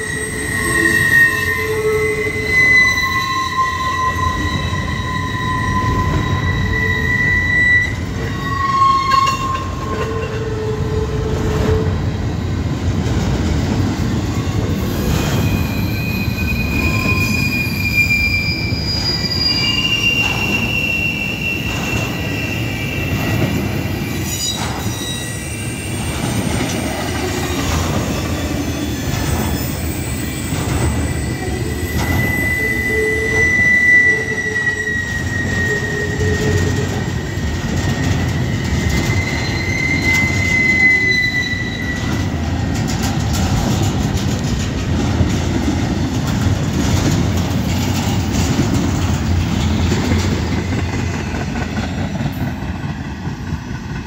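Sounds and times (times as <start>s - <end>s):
squealing train wheels: 0.0s - 54.0s
train wheels rumbling on rail: 0.0s - 54.0s.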